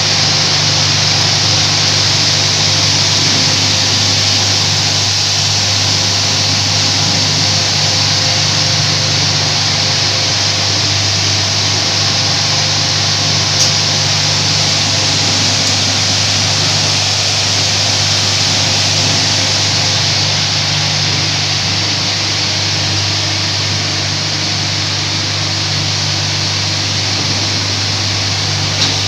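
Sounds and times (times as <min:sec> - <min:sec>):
machinery humming and hissing: 0:00.0 - 0:29.0.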